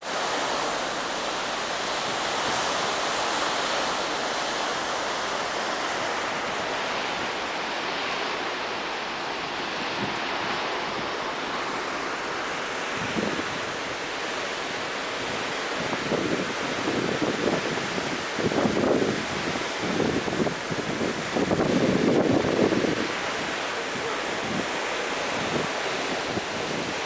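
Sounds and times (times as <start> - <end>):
sea water rushing past boat: 0.0 - 27.0
wind on microphone: 1.9 - 27.0.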